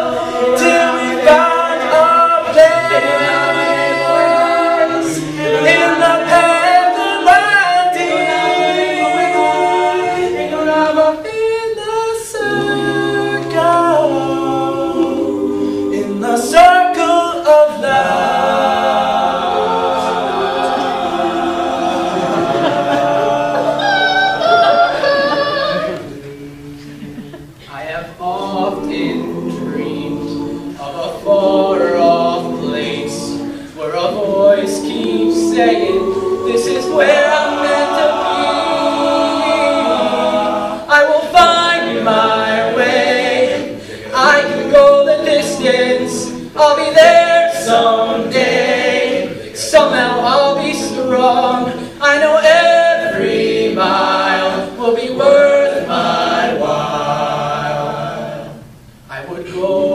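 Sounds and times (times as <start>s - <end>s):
male a cappella group singing: 0.0s - 59.9s.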